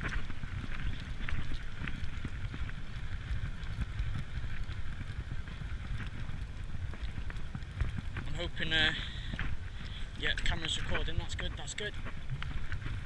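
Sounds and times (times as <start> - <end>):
faint ticks: 0.0 - 13.0
wind buffeting microphone: 0.0 - 13.0.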